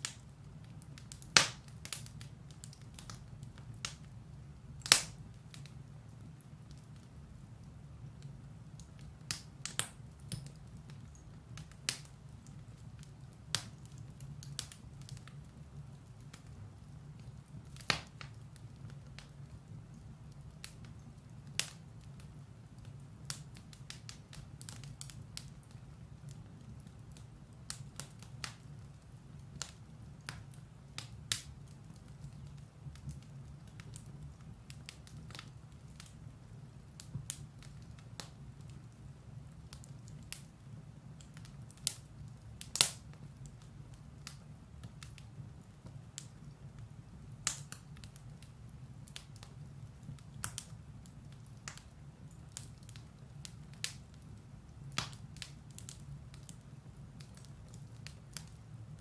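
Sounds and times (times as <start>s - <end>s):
fire low rumble: 0.0s - 59.0s
firewood crackling and popping: 0.0s - 59.0s.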